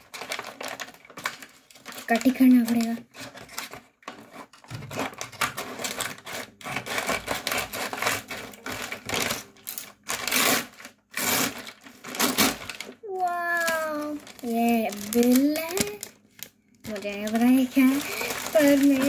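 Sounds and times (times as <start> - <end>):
paper bag crinkling and tearing: 0.0 - 19.0.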